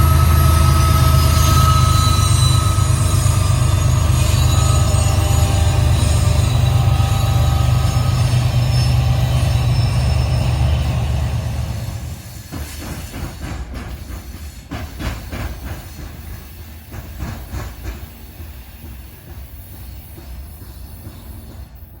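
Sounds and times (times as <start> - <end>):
train rumble: 0.0 - 22.0
train wheels clicking over rail joints: 0.0 - 22.0.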